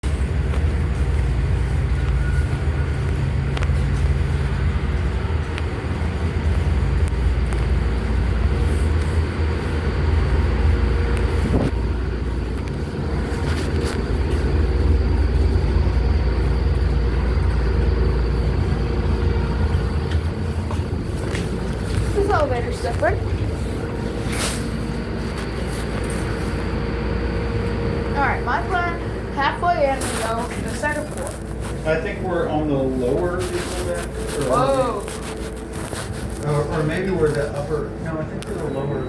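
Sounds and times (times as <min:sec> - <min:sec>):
ferry engines droning: 0:00.0 - 0:39.0.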